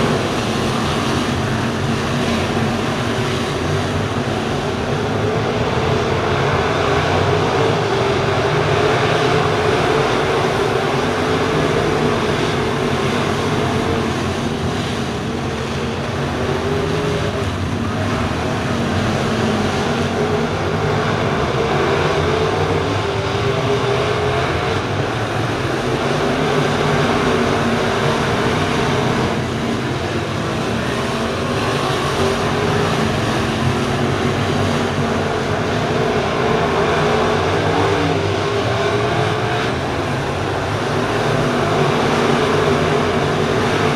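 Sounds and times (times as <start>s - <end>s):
race car engines droning: 0.0s - 43.9s.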